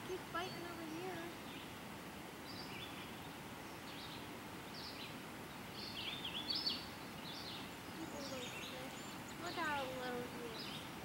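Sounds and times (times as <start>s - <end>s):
birds chirping: 0.0s - 1.8s, 2.4s - 11.0s
faint background hiss: 0.0s - 11.0s.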